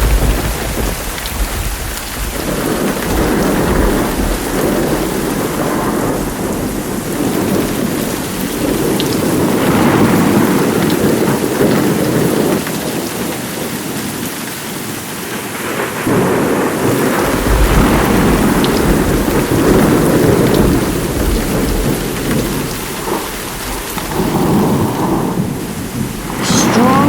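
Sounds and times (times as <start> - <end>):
rolling thunder: 0.0 - 12.6, 15.6 - 26.4
heavy rain: 0.0 - 27.0.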